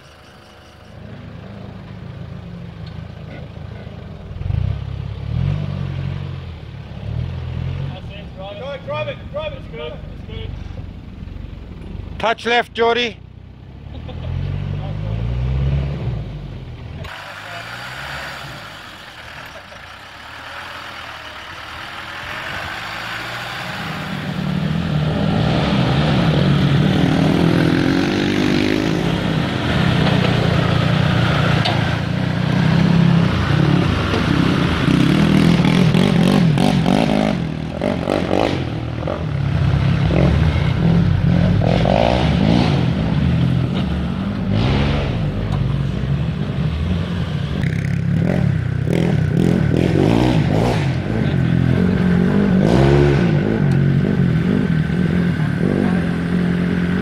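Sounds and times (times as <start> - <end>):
diesel engine revving and labouring: 0.0 - 57.0.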